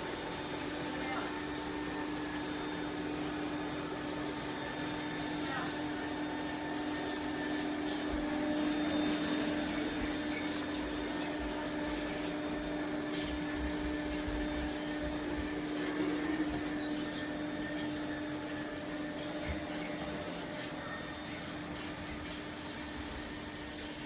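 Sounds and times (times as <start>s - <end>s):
robot vacuum whirring: 0.0s - 24.0s.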